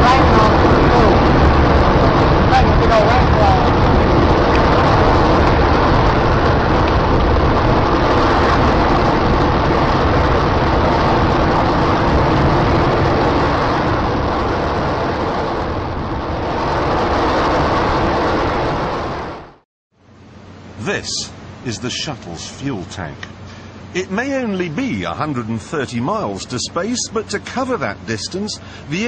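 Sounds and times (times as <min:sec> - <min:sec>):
rocket engines roaring: 0:00.0 - 0:29.0.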